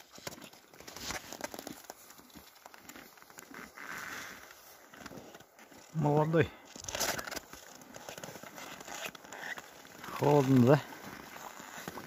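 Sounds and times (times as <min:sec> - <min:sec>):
footsteps crunching on frozen snow: 0:00.0 - 0:12.0.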